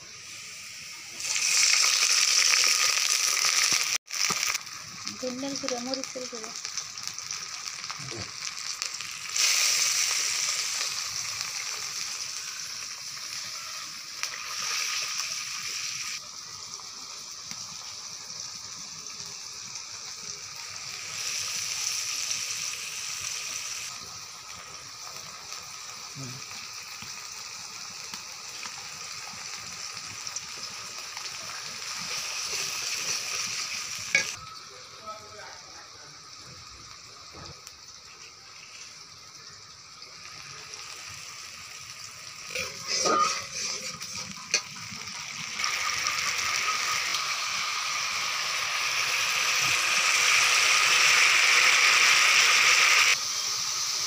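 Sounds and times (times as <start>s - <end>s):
onions frying in hot oil: 0.0s - 54.0s.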